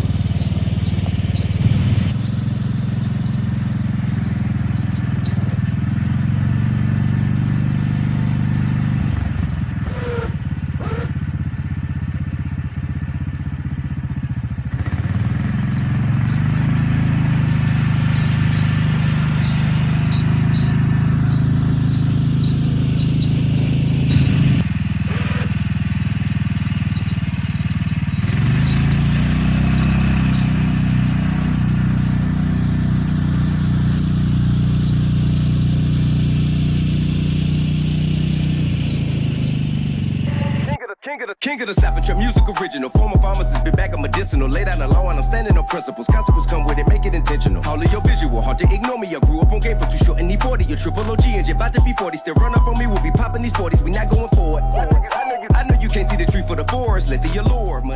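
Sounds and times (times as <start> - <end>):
small engine running: 0.0 - 40.8, 41.8 - 57.9.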